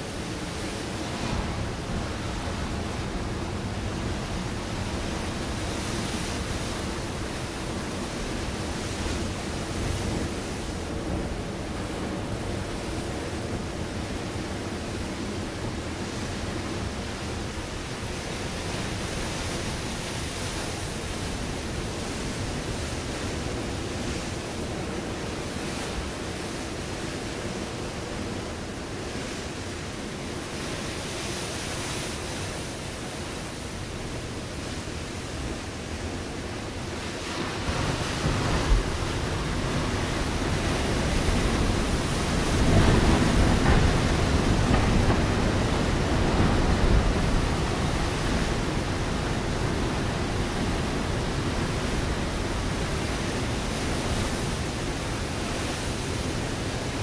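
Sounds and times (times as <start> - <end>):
ocean waves on rocky shore: 0.0 - 57.0.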